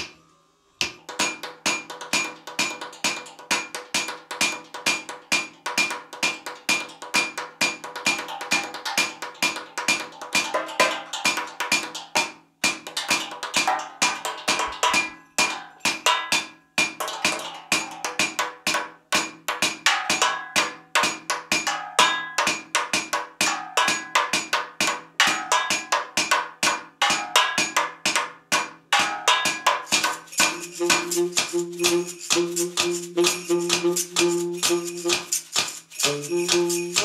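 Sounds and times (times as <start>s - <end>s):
mallets striking metal jugs and cans: 0.8s - 37.0s.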